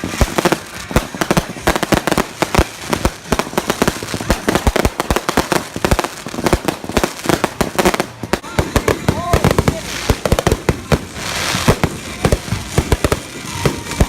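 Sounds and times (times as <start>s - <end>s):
fireworks and firecrackers banging: 0.0s - 14.0s.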